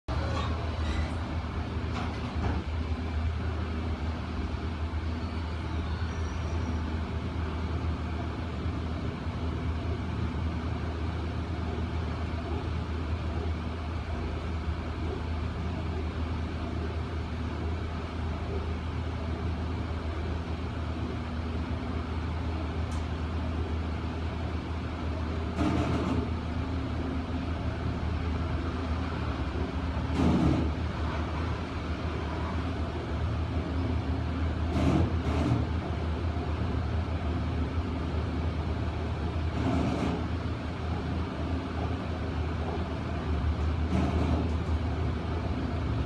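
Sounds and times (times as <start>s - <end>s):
elevator hum and rumble: 0.0s - 46.0s.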